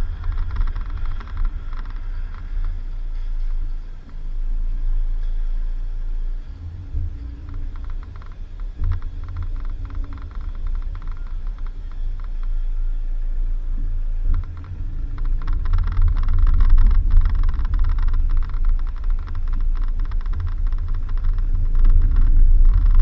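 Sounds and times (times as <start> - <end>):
rattling clicks: 0.0 - 4.2, 6.8 - 12.7, 14.2 - 23.0
vehicle rumbling on dirt road: 0.0 - 23.0.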